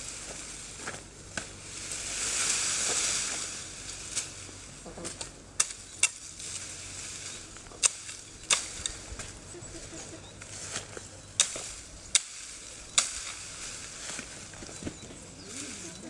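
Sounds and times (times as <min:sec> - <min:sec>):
foliage rustling: 0:00.0 - 0:16.0.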